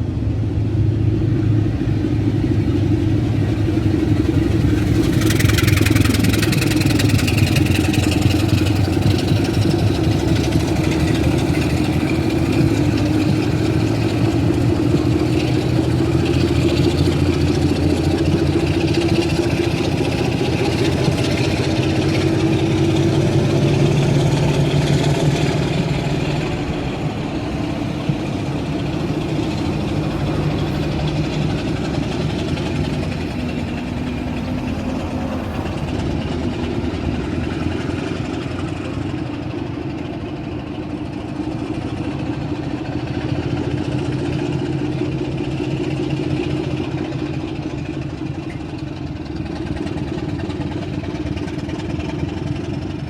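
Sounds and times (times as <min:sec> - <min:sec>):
diesel locomotive engine idling: 0:00.0 - 0:53.0.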